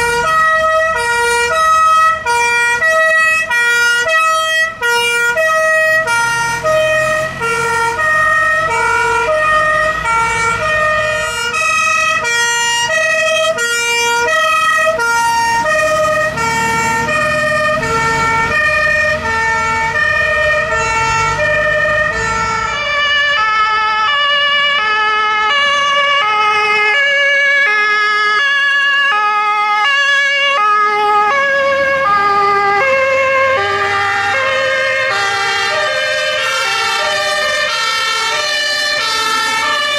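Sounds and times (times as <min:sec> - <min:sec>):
diesel engine rumbling: 0:00.0 - 0:39.9
two-tone fire engine sirens: 0:00.0 - 0:39.9.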